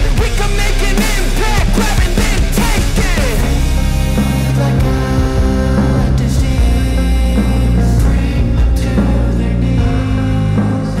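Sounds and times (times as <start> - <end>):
background music with strong bass: 0.0 - 11.0.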